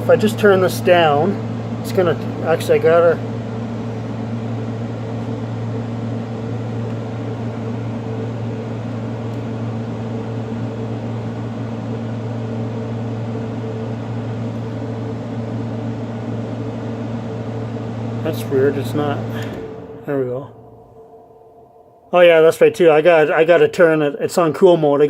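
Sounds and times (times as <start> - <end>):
air conditioner compressor hum: 0.0 - 25.0
fan rushing: 0.0 - 25.0.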